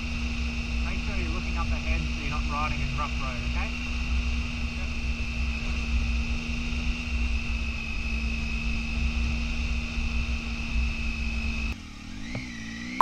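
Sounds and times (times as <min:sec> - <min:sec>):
motorcycle engine hum: 0:00.0 - 0:13.0.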